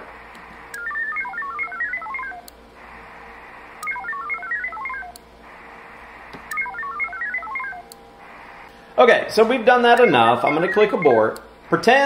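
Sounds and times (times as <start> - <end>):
modem stepping beeps: 0.0 - 12.0.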